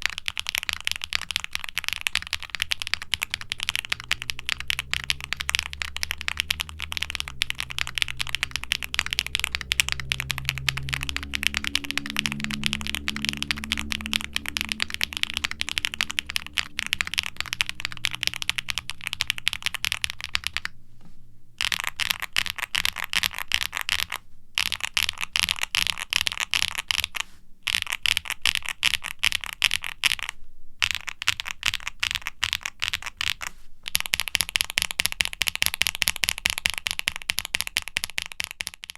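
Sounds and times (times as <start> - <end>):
mechanical keyboard typing: 0.0 - 20.8, 21.6 - 38.9.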